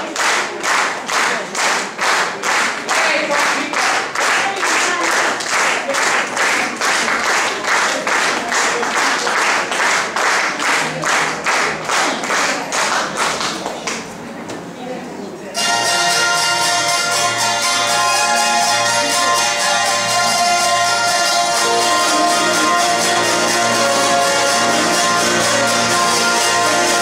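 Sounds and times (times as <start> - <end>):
audience clapping in unison: 0.0 - 14.3, 17.9 - 27.0.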